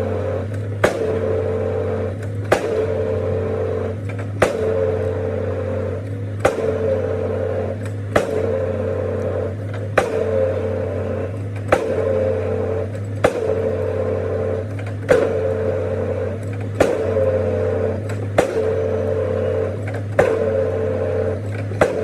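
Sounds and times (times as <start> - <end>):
excavator engine hum: 0.0 - 22.0
pile hammer striking concrete: 0.0 - 22.0.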